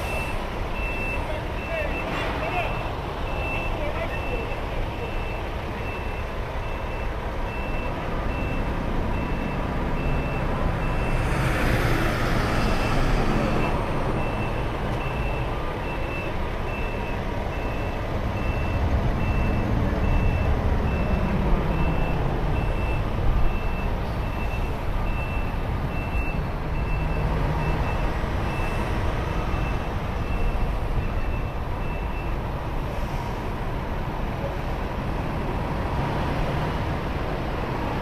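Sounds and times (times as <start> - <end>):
reversing alarm beeping: 0.0 - 11.3, 12.8 - 32.4
heavy trucks rumbling: 0.0 - 38.0.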